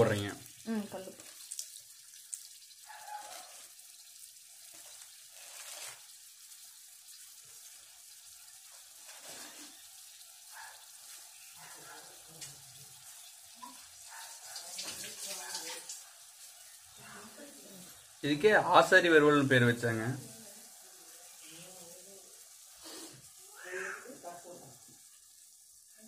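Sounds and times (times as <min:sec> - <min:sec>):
pot simmering with bubbling pops: 0:00.0 - 0:26.0.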